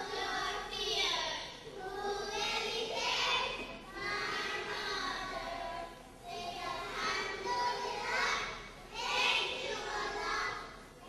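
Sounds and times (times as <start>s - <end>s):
children singing in unison: 0.0s - 11.0s.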